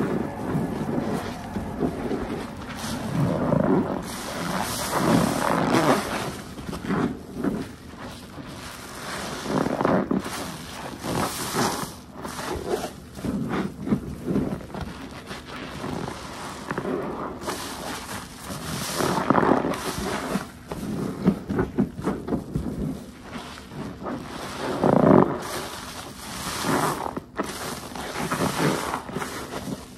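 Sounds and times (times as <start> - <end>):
sponge squelching with foam: 0.0 - 29.9.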